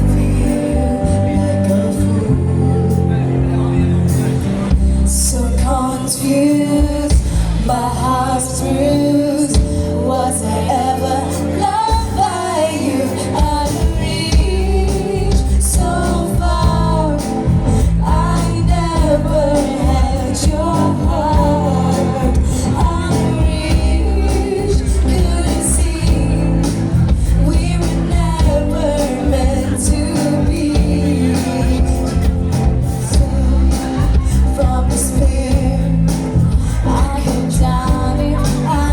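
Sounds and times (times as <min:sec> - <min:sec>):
woman singing: 0:00.0 - 0:03.4, 0:05.0 - 0:38.9
live band playing pop: 0:00.0 - 0:38.9.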